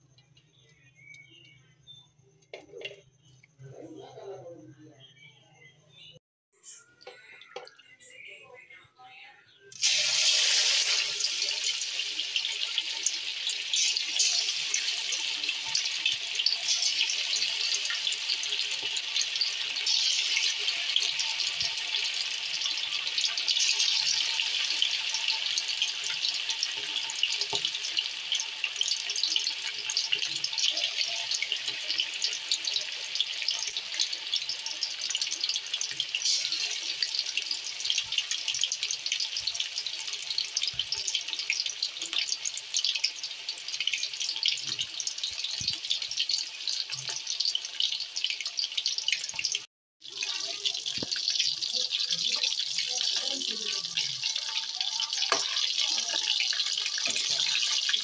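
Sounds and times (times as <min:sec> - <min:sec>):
chicken deep-frying in oil: 0:09.6 - 0:58.0.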